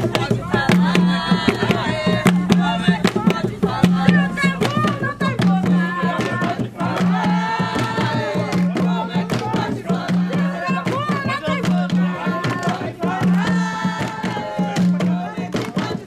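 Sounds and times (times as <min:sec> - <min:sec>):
hand-beaten drums: 0:00.0 - 0:16.0
voices singing: 0:00.0 - 0:16.0.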